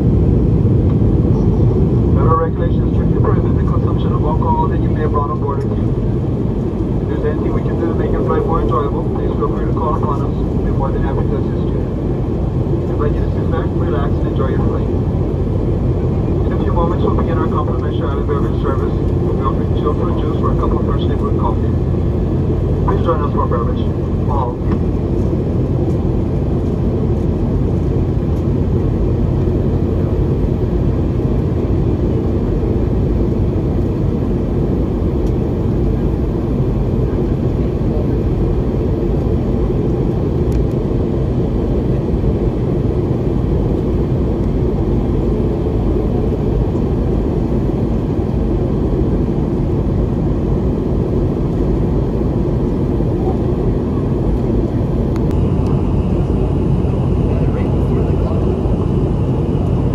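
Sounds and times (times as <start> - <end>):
airplane cabin airflow and engines: 0.0 - 59.9.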